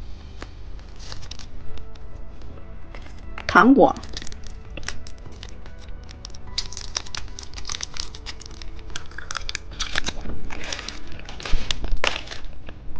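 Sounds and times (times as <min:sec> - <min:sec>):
plastic wrapper crinkling and tearing: 0:00.3 - 0:12.9.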